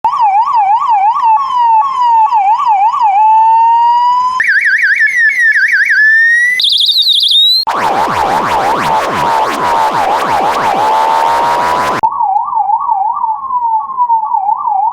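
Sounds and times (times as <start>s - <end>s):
ambulance siren warbling: 0.1s - 13.7s.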